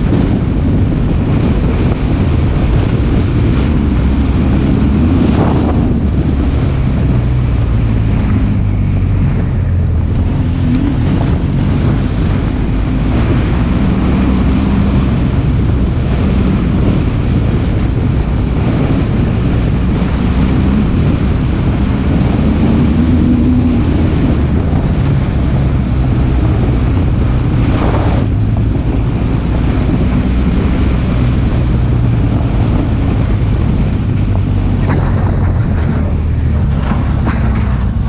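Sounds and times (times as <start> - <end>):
tyres on gravel road: 0.0 - 38.0
vehicle engine running: 0.0 - 38.0
wind on microphone: 0.0 - 38.0.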